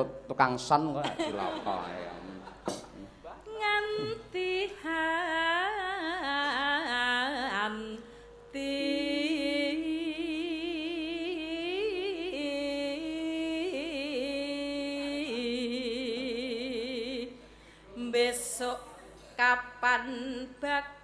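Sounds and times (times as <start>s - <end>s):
woman singing with vibrato: 3.5s - 17.4s, 18.0s - 21.0s.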